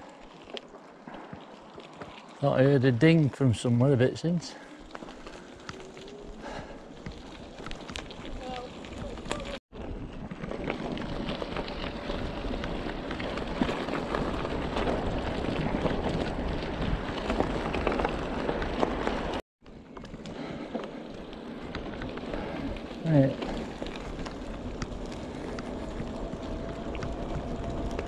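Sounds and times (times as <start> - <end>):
bike tyres crunching on rough track: 0.0 - 28.0.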